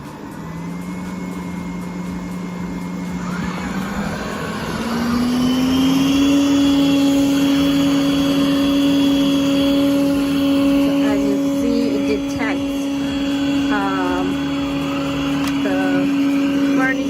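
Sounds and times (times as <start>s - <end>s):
robot vacuum motor hum: 0.0s - 17.0s.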